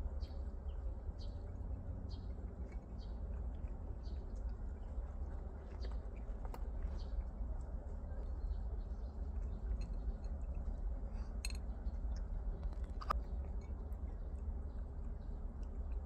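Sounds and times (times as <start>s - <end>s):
low rumble and hiss: 0.0s - 16.0s
cat chewing food: 0.4s - 16.0s.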